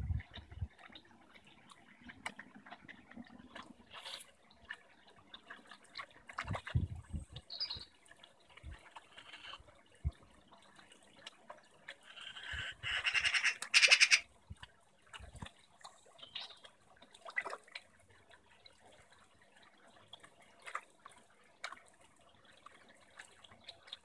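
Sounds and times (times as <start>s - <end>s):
fish splashing and slurping: 0.0s - 24.0s.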